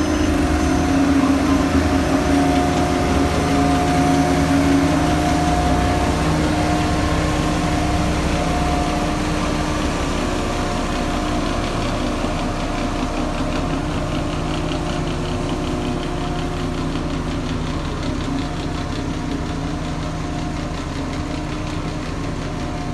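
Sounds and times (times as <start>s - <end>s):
heavy machine engine running: 0.0s - 22.9s.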